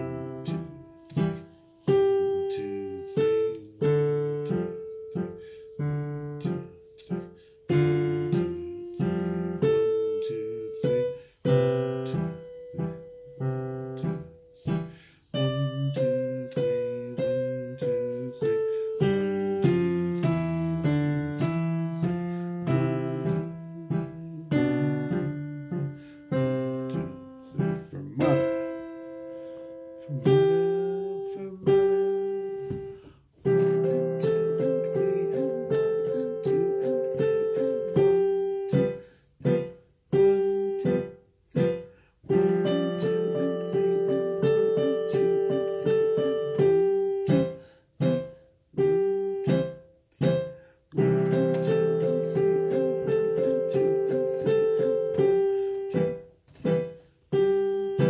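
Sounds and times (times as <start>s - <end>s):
piano playing: 0.0s - 58.0s.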